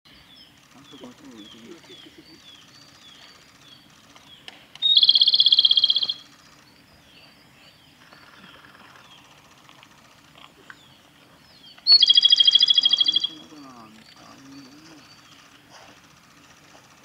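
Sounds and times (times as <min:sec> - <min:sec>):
robin singing trill: 0:00.1 - 0:16.6
faint calls of other birds: 0:00.1 - 0:17.0.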